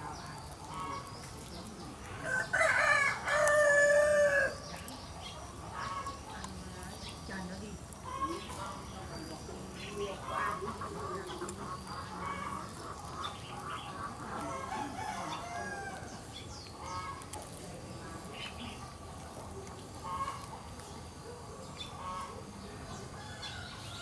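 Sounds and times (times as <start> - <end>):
bird clucking calls: 0.0 - 24.0.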